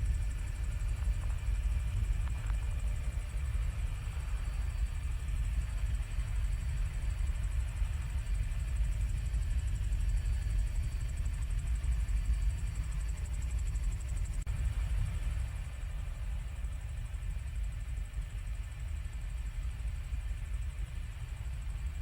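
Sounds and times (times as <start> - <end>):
faint high whine: 0.0 - 22.0
helicopter engine and rotor rumble: 0.0 - 22.0.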